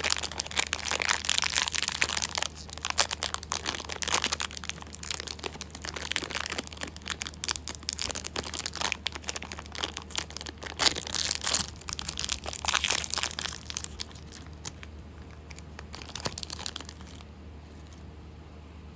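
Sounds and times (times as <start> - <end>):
candy wrappers crinkling: 0.0 - 18.0.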